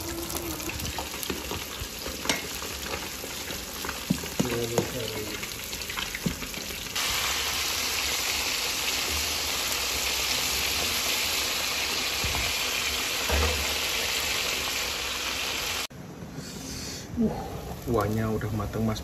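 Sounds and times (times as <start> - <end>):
fish deep-frying in oil: 0.0 - 15.9.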